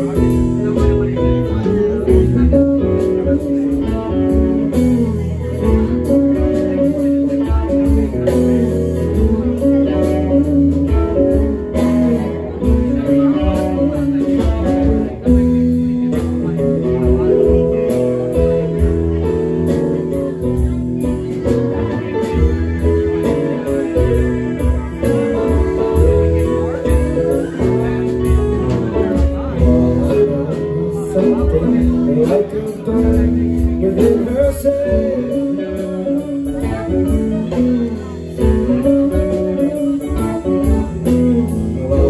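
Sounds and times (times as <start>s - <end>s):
electric guitar lines: 0.0s - 42.0s
rock band playing: 0.0s - 42.0s.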